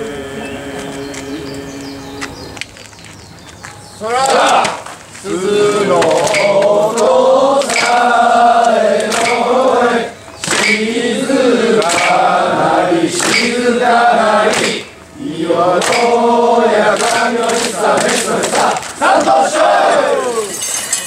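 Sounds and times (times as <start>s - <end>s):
men chanting in unison: 0.0s - 2.5s, 4.0s - 20.4s.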